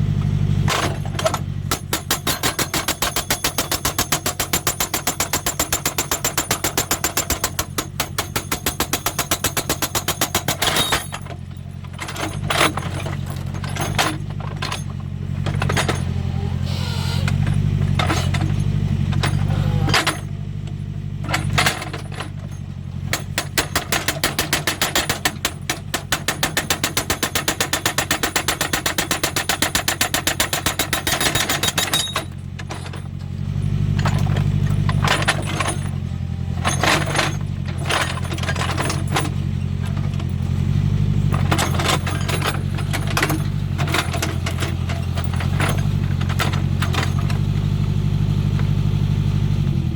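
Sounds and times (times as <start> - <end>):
backhoe diesel engine running: 0.0 - 49.9
hydraulic rock breaker hammering: 0.1 - 49.1.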